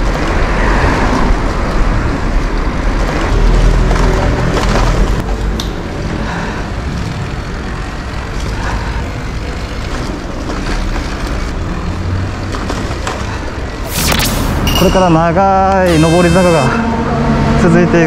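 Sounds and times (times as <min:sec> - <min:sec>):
bicycle tyre and road noise: 0:00.0 - 0:18.0.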